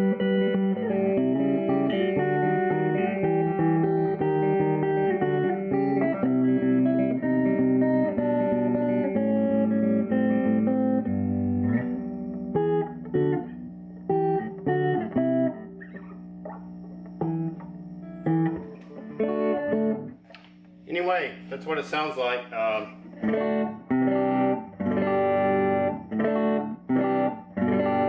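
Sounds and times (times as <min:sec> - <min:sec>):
electric guitar notes and chord stabs: 0:00.0 - 0:20.8, 0:22.1 - 0:28.0.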